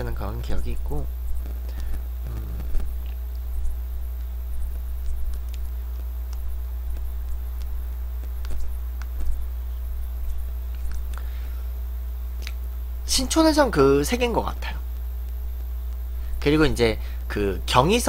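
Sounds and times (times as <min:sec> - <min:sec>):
low murmur: 0:00.0 - 0:17.9
low electrical hum: 0:00.0 - 0:18.0.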